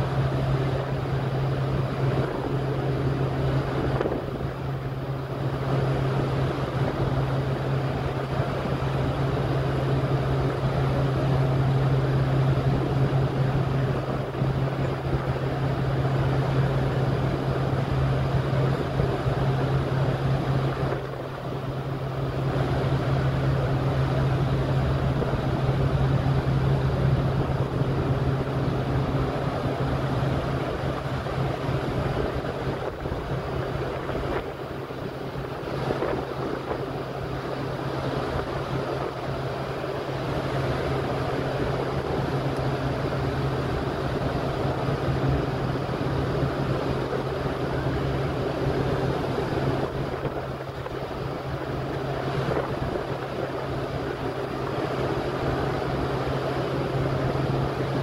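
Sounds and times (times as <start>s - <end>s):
low ship hum: 0.0s - 58.0s
ship wake churning: 0.0s - 58.0s
wind on microphone: 0.0s - 58.0s.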